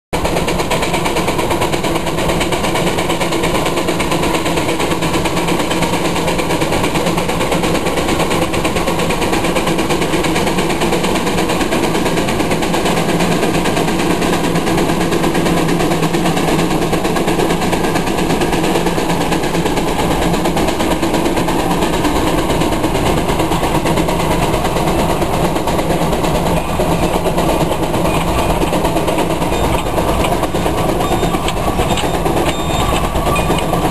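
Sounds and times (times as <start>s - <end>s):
steam engine exhaust chuffing: 0.2s - 33.9s.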